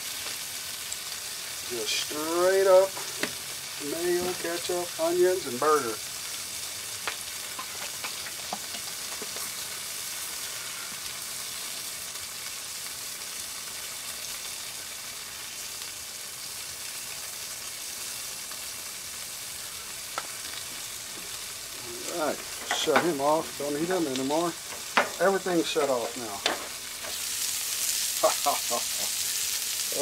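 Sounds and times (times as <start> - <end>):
patties sizzling on griddle: 0.0 - 30.0.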